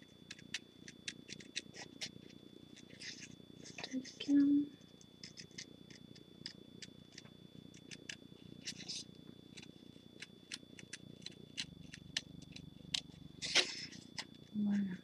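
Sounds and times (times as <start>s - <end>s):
steady low rumble: 1.6s - 15.0s.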